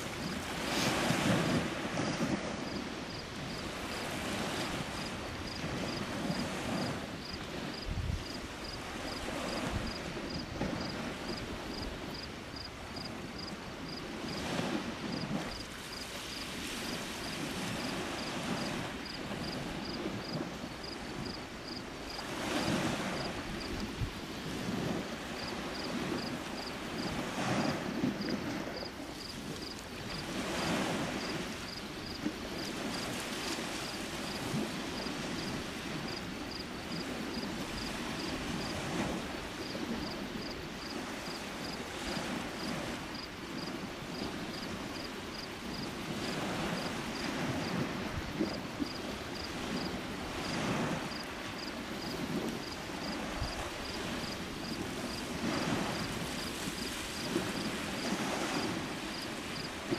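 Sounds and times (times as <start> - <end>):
lake waves washing ashore: 0.0 - 59.9
wind on microphone: 0.0 - 59.9.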